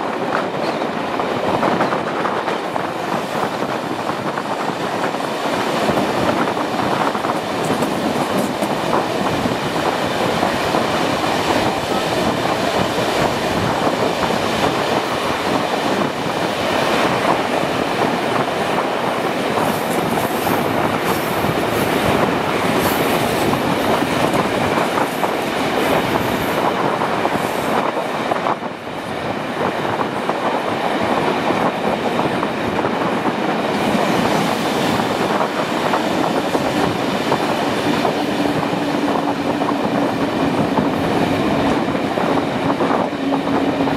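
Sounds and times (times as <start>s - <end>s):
train wheels clickety-clack: 0.0s - 43.9s.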